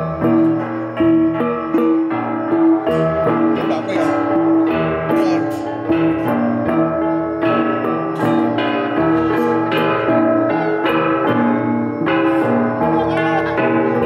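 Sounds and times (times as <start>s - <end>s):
instrumental music with pulsing notes: 0.0s - 14.0s.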